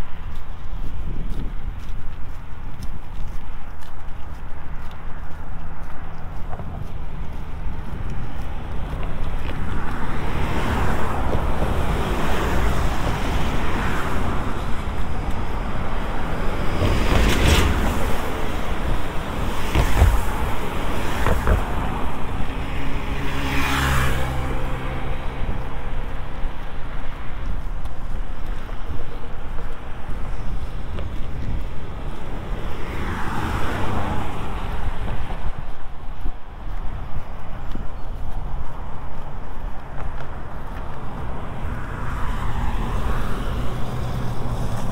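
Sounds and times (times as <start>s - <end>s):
cars passing close by: 0.0s - 44.9s
wind buffeting microphone: 0.0s - 44.9s.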